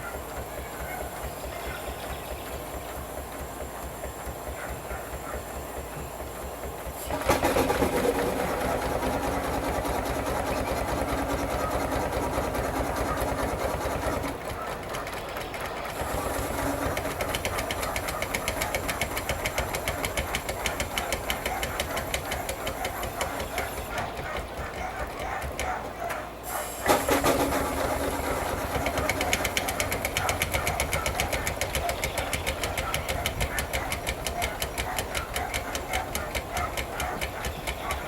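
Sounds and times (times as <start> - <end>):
steam traction engine running: 0.0 - 38.0.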